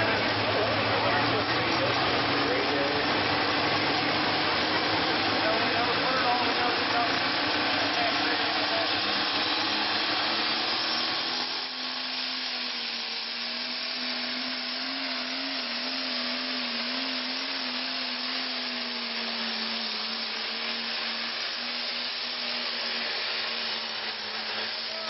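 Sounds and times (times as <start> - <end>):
tractor engine under full load: 0.0 - 25.0.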